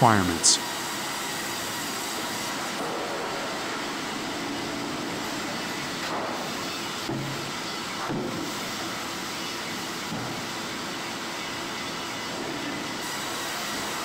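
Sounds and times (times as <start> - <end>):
sawmill machinery running: 0.0 - 14.0.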